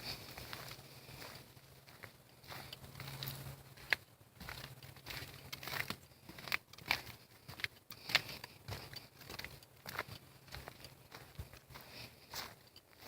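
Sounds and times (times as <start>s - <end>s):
footsteps crunching on a trail: 0.0s - 13.0s.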